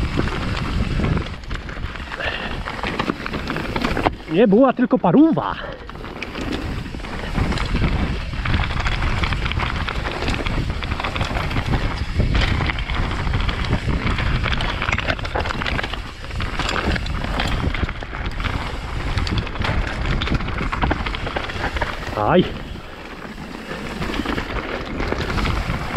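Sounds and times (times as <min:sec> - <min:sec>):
bike chain and frame rattling: 0:00.0 - 0:25.9
tyres crunching over dirt: 0:00.0 - 0:25.9
wind rumble on microphone: 0:00.0 - 0:25.9.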